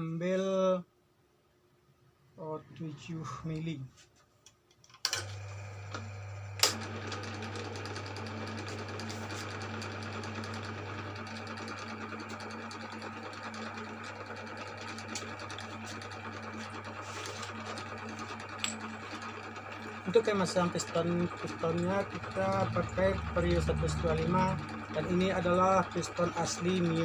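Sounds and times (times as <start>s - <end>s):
boring machine motor hum: 5.2s - 27.0s.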